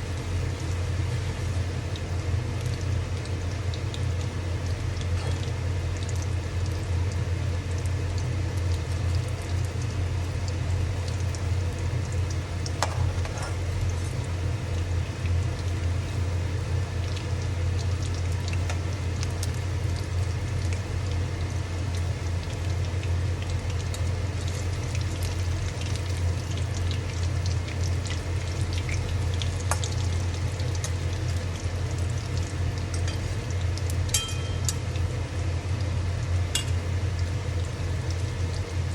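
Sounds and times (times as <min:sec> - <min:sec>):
food deep-frying in oil: 0:00.0 - 0:38.9.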